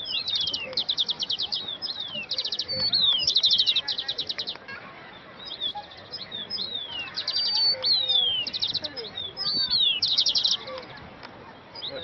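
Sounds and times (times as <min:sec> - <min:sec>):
songbirds chirping and trilling: 0:00.0 - 0:12.0.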